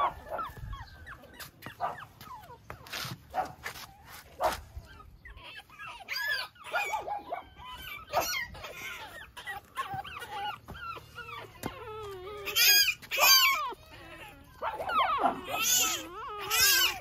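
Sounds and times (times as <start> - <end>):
puppy whining and whimpering: 0.0 - 17.0.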